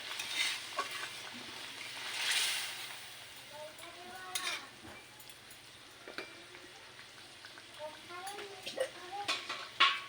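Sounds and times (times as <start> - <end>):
food sizzling in a hot pan: 0.0 - 10.0.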